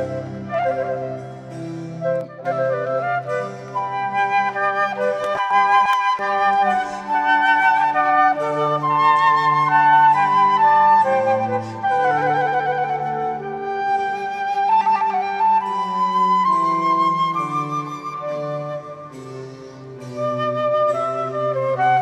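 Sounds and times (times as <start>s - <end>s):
slow instrumental music: 0.0s - 22.0s.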